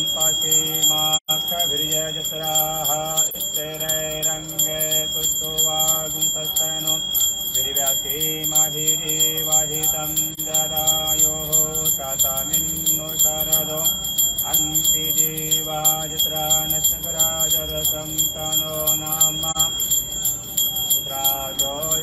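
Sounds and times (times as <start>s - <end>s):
bell ringing: 0.0s - 22.0s.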